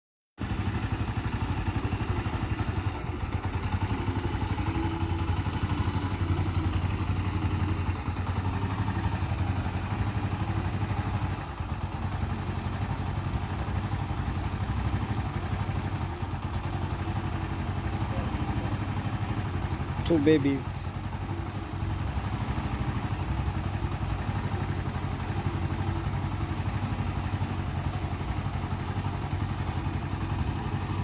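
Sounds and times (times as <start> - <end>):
motorcycle engine idling: 0.4 - 31.0.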